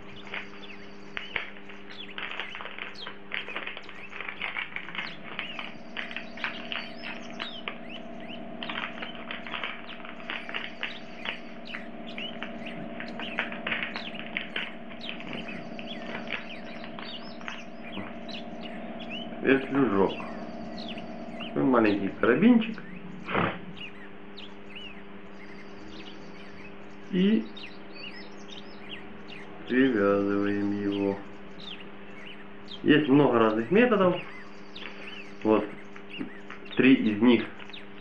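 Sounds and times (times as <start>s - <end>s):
small birds chirping: 0.0s - 38.0s
steady low hum: 0.0s - 38.0s.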